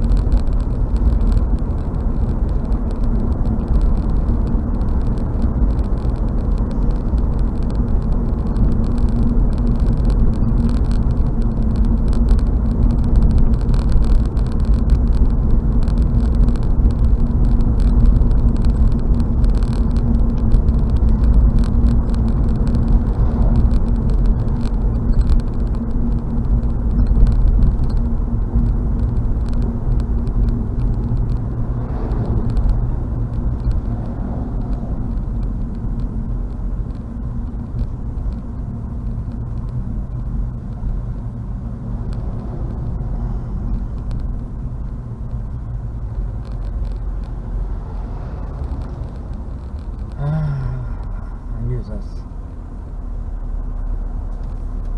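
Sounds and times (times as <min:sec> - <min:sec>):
car interior road noise: 0:00.0 - 0:54.9.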